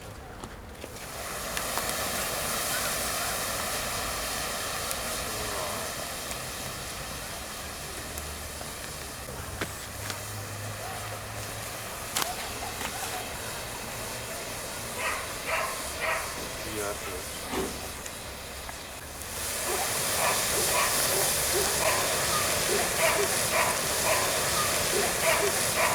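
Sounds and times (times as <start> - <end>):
fire crackles: 0.1 - 25.9
bonfire rushing hiss: 0.8 - 25.9.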